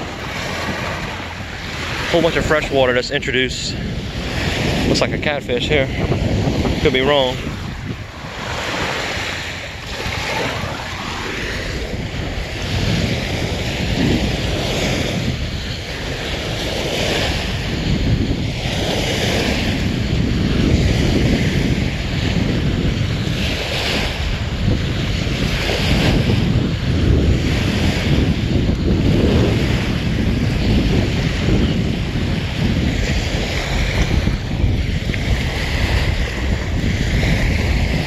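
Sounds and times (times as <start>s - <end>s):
waves washing on sandy shore: 0.0s - 38.0s
wind buffeting microphone: 0.0s - 38.0s.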